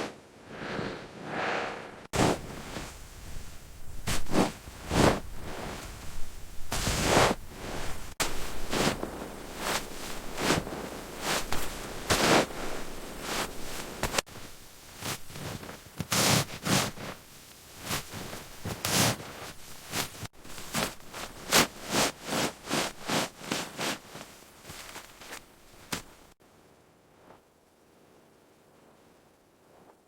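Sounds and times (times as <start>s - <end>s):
crunching and scraping in snow: 0.0s - 26.4s.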